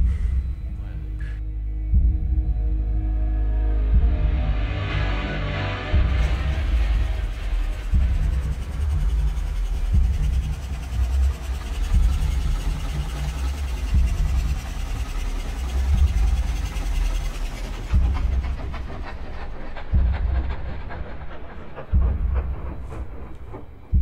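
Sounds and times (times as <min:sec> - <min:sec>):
low rumbling pulsing drone: 0:00.0 - 0:24.0.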